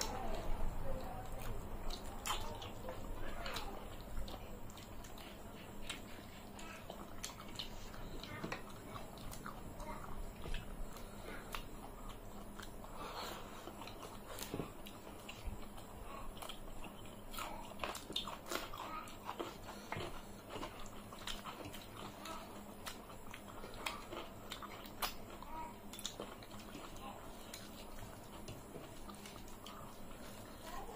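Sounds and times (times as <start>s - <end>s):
chewing food: 0.0s - 30.9s.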